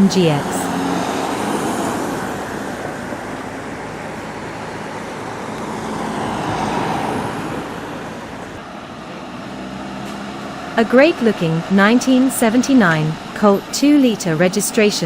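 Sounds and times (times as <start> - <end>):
vehicle engine and tyre noise: 0.0 - 14.9.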